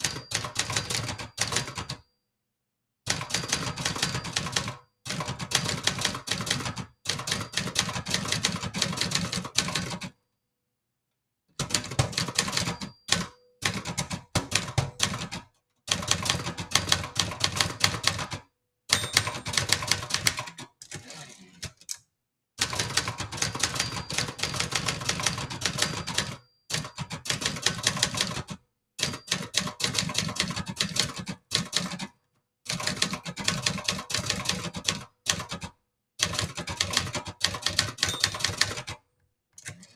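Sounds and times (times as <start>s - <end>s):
typewriter typing: 0.0s - 2.0s, 3.1s - 10.2s, 11.6s - 22.0s, 22.6s - 39.0s.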